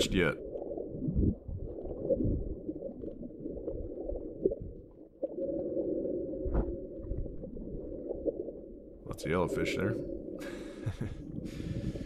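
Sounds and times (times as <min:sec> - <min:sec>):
underwater rumbling water wash: 0:00.0 - 0:12.0.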